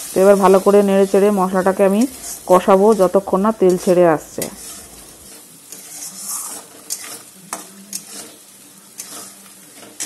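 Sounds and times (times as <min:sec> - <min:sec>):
spatula scraping metal pan: 0:00.0 - 0:10.0
spice paste sizzling in oil: 0:00.0 - 0:10.0.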